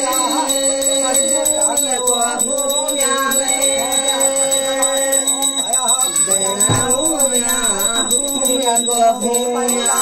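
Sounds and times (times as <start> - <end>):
hand bell ringing rapidly: 0.0 - 10.0.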